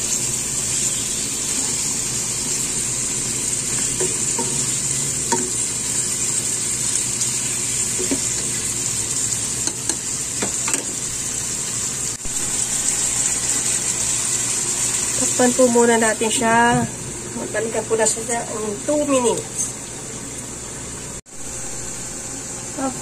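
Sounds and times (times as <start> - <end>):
chicken sizzling in hot oil: 0.0 - 22.9.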